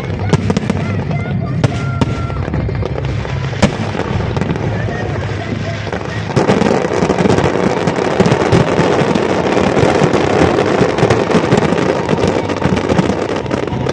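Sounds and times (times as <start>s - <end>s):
fireworks popping and crackling: 0.0s - 13.9s.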